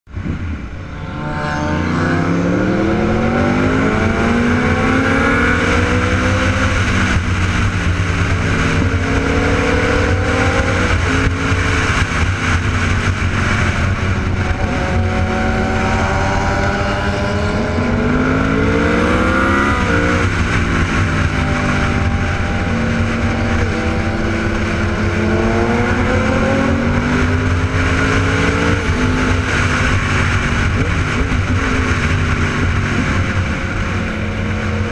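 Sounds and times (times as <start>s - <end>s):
motorcycle engines accelerating: 0.2s - 34.9s.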